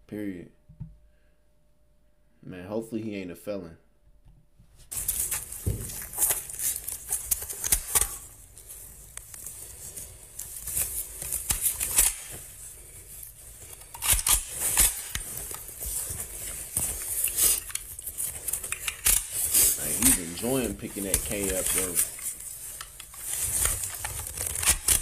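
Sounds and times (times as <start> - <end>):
handling rustling: 4.9 - 25.0.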